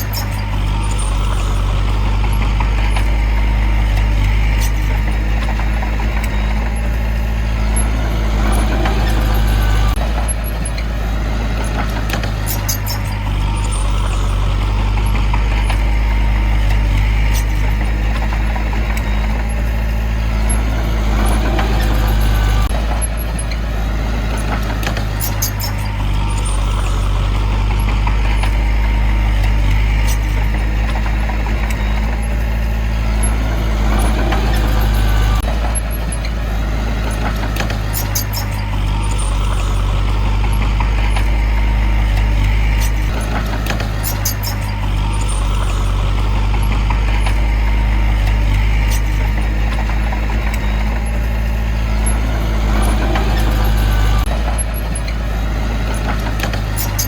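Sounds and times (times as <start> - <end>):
diesel earthmoving machinery running: 0.0 - 57.0
high squeaks: 0.0 - 57.0.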